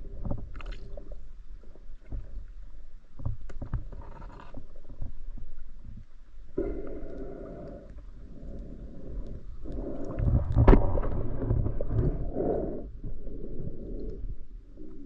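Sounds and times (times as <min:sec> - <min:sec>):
muffled water gurgling: 0:00.0 - 0:15.0.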